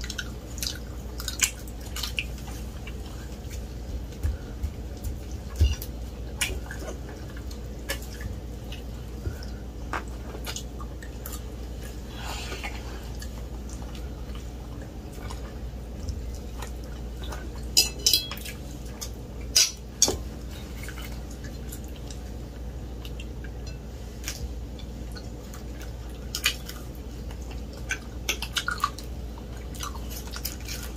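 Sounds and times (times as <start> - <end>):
quiet chewing: 0.0 - 17.8, 18.4 - 30.9.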